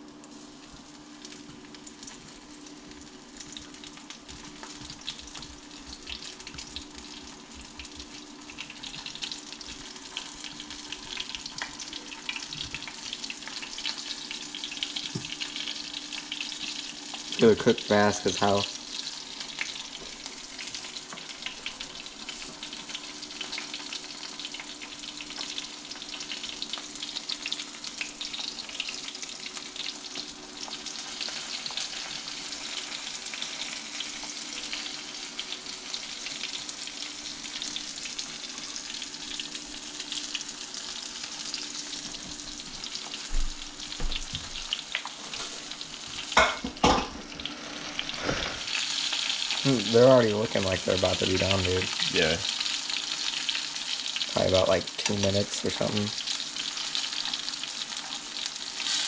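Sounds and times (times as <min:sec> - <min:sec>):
fish deep-frying in oil: 0:00.0 - 0:59.0.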